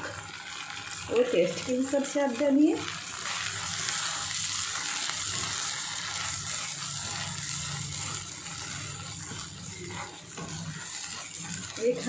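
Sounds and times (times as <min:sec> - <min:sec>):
food sizzling in hot oil: 0:00.0 - 0:12.0
spatula stirring: 0:01.4 - 0:12.0.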